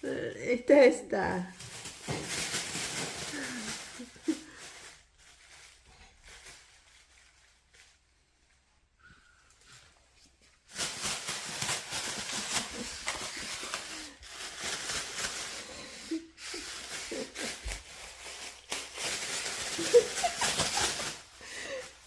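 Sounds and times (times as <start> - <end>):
plastic bags crinkling: 1.4 - 8.6, 9.6 - 22.0.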